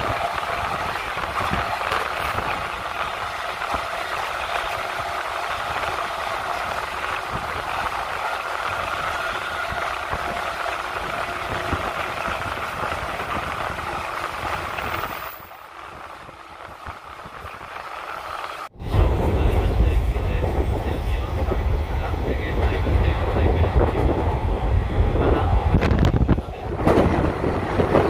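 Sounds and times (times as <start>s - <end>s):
rush of wind: 0.0s - 28.0s
train wheels on rails: 0.0s - 28.0s.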